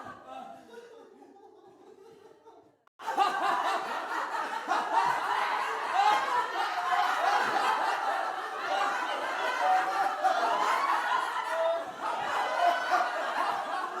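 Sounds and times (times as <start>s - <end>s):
group of people laughing: 0.0s - 14.0s.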